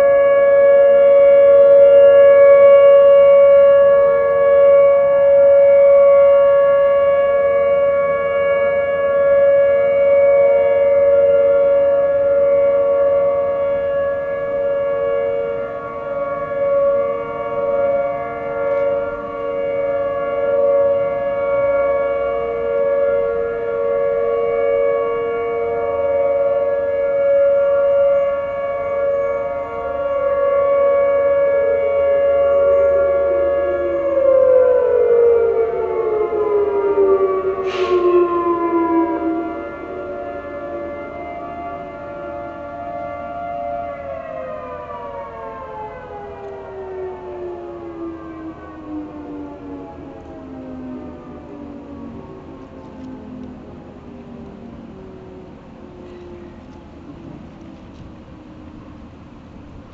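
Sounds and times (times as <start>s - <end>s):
warning sirens sounding: 0.0s - 59.9s.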